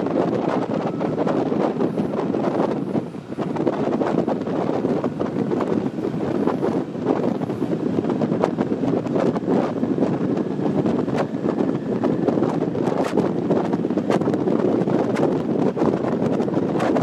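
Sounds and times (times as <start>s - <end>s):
train rumbling along track: 0.0s - 17.0s
wind rushing over microphone: 0.0s - 17.0s.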